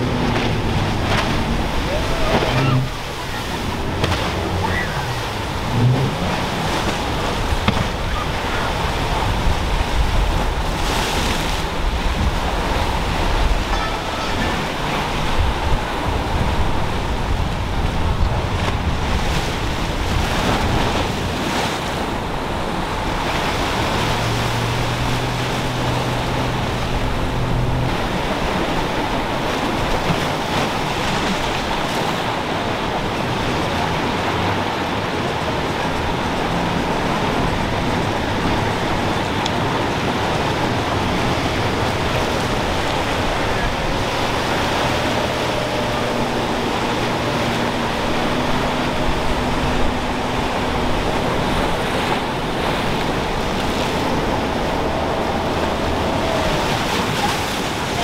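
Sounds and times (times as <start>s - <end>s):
outboard engines running: 0.0s - 58.0s
waves breaking: 0.0s - 58.0s
wind on microphone: 0.0s - 58.0s.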